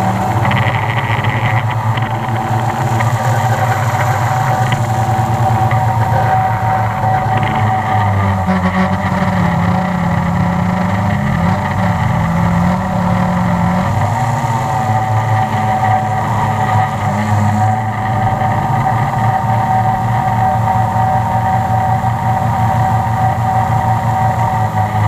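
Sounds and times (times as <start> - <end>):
drone motors buzzing: 0.0 - 25.0.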